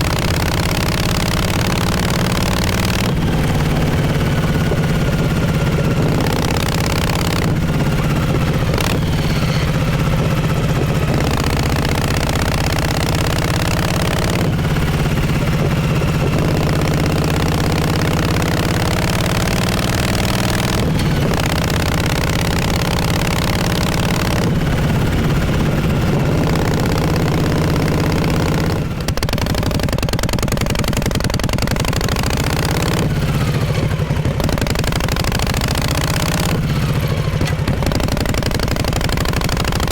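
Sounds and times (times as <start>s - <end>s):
motorcycle exhaust while riding: 0.0s - 39.9s.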